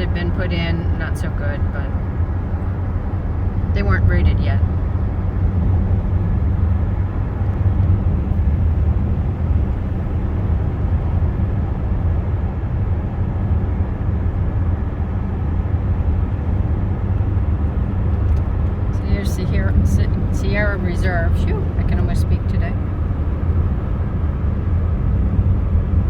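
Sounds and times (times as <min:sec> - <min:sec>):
car road noise rumble: 0:00.0 - 0:26.0.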